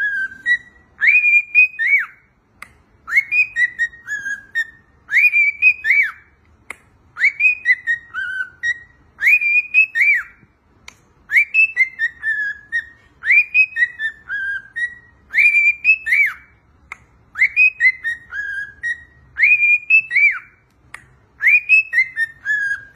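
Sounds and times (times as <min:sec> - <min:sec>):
cockatiel whistling a tune: 0:00.0 - 0:02.4, 0:03.0 - 0:06.4, 0:07.1 - 0:10.6, 0:11.2 - 0:22.9.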